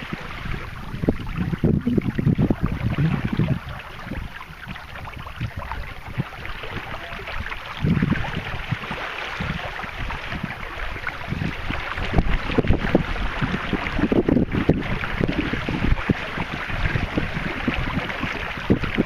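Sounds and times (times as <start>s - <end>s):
water hissing along canoe hull: 0.0s - 19.0s
wind buffeting microphone: 0.0s - 19.0s.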